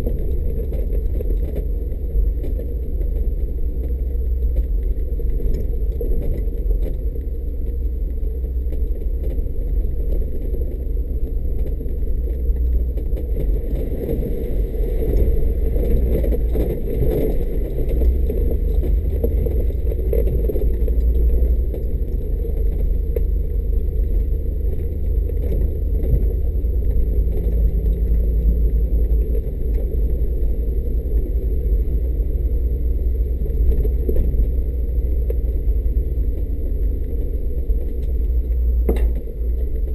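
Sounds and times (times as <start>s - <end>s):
engine rumbling at low speed: 0.0s - 39.9s.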